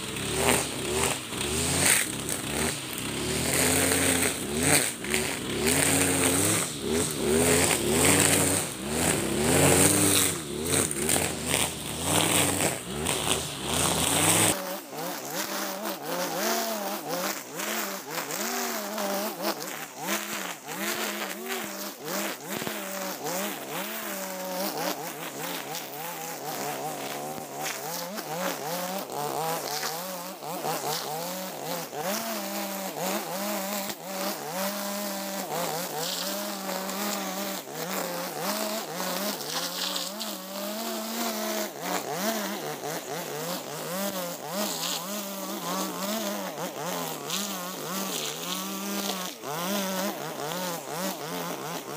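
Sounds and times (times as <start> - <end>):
brush cutter engine running: 0.0 - 51.9
nylon line cutting grass: 0.0 - 51.9.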